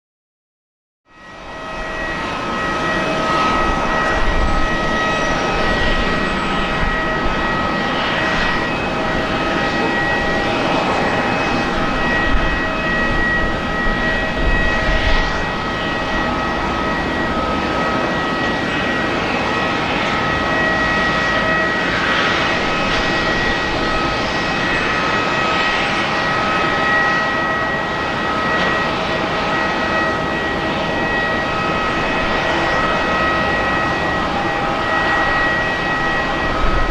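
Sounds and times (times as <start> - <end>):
jet engines running: 1.2 - 36.9.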